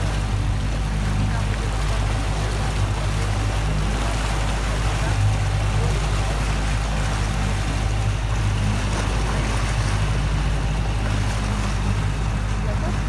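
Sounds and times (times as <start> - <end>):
motorboat engine drone: 0.0 - 13.0
water rushing: 0.0 - 13.0
wind: 0.0 - 13.0.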